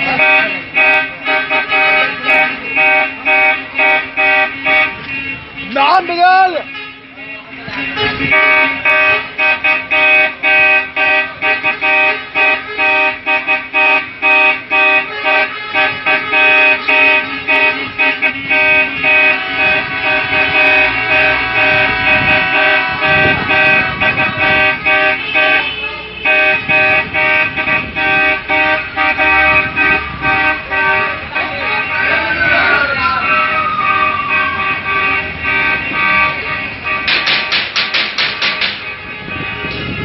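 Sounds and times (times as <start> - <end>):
truck engine rumble: 0.0 - 40.0
vehicle horns honking: 0.0 - 40.0.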